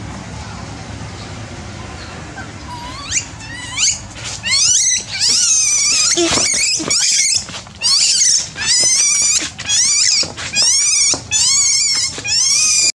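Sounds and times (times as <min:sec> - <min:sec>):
baby monkey crying: 0:02.4 - 0:12.9.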